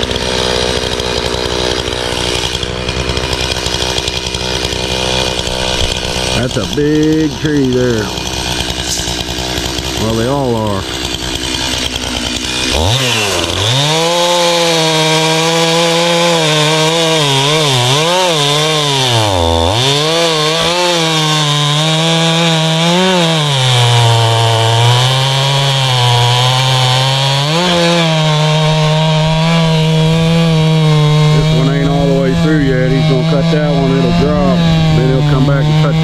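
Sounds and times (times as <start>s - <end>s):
chainsaw cutting log: 0.0s - 36.0s.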